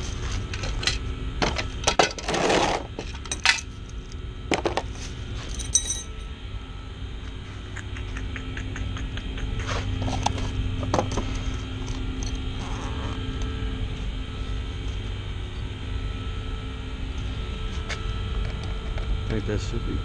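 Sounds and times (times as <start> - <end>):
low equipment hum: 0.0 - 20.0.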